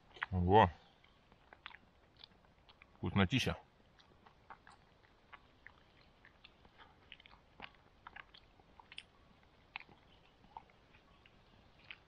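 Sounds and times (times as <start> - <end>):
person chewing food: 0.0 - 3.0, 3.7 - 12.0.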